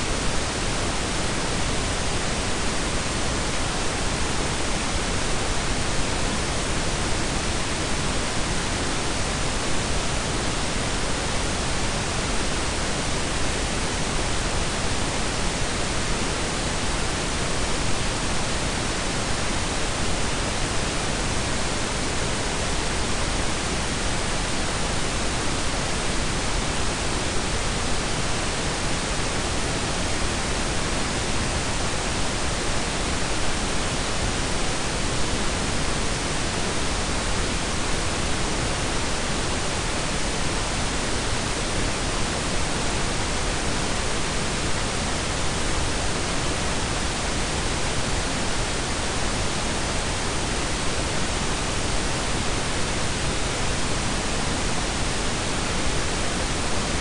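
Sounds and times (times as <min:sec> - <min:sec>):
steady noise hiss: 0:00.0 - 0:57.0.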